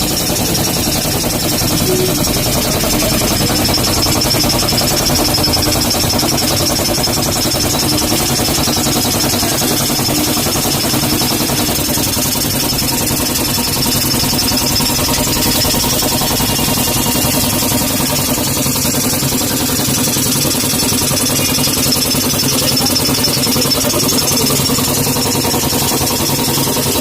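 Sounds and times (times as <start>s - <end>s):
air compressor running: 0.0s - 27.0s.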